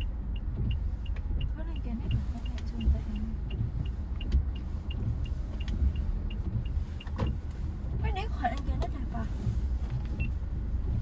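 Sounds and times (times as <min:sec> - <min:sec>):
car engine and tyres rumbling: 0:00.0 - 0:11.0
faint regular ticking: 0:00.0 - 0:11.0.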